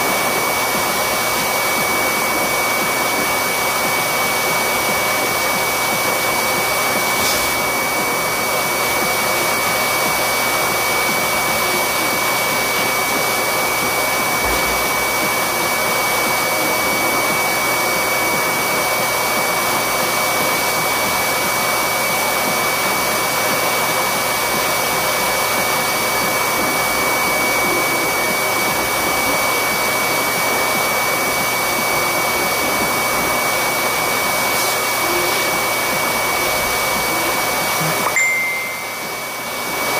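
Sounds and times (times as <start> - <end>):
blower motor rushing with whine: 0.0 - 39.9.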